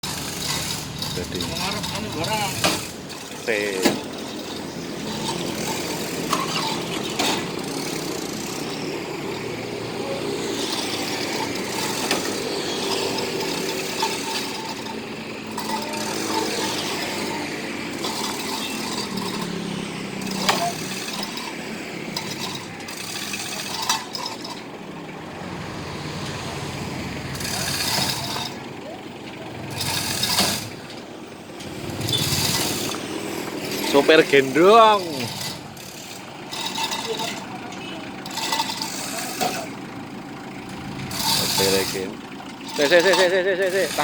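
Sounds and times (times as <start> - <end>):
vehicle engine running with rattle: 0.0 - 44.0.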